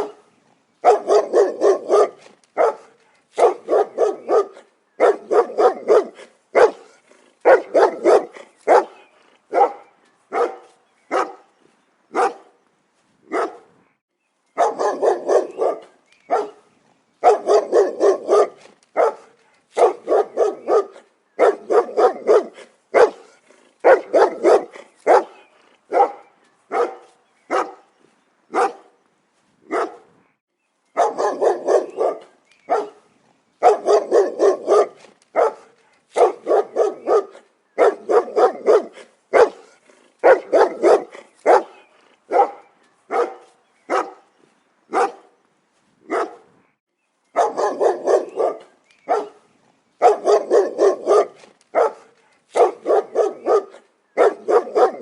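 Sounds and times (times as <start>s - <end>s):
dog barking: 0.0s - 0.2s, 0.8s - 11.5s, 12.1s - 12.6s, 13.3s - 13.7s, 14.6s - 16.6s, 17.2s - 27.8s, 28.5s - 28.9s, 29.7s - 30.1s, 31.0s - 33.0s, 33.6s - 44.3s, 44.9s - 45.4s, 46.1s - 46.5s, 47.4s - 55.0s.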